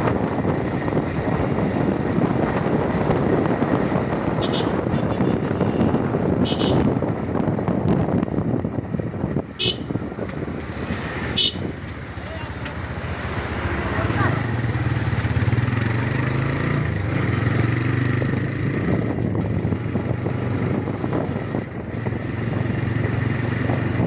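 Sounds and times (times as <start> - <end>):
motorcycle engine running: 0.0 - 24.0
road noise: 0.0 - 24.0.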